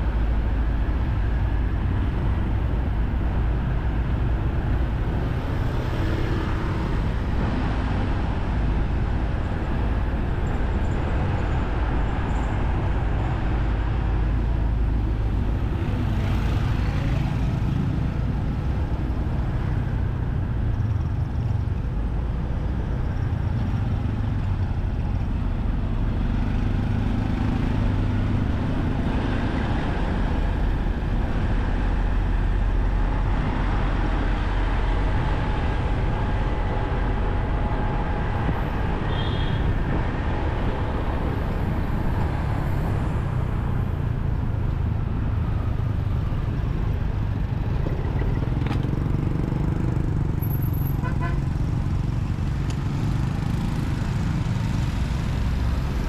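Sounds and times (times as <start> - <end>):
street traffic noise: 0.0 - 56.0.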